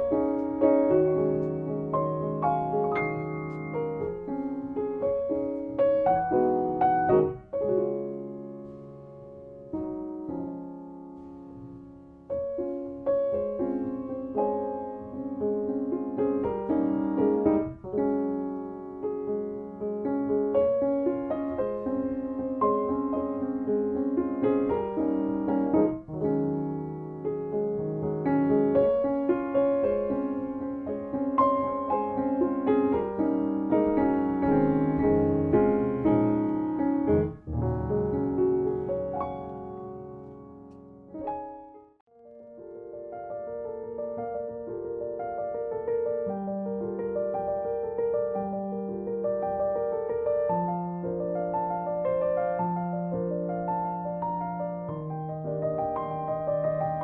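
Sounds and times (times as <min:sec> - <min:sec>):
soft piano music: 0:00.0 - 0:57.0.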